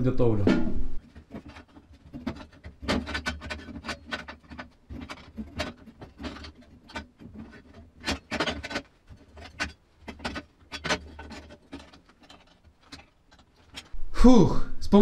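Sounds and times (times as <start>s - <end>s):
steel clinking and scraping: 0.5s - 13.9s.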